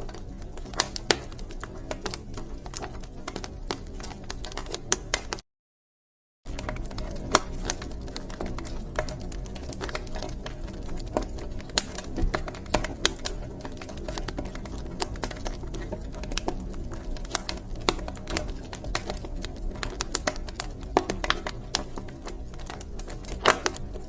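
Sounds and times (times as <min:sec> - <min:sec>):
wood fire crackling: 0:00.0 - 0:05.4, 0:06.5 - 0:24.0.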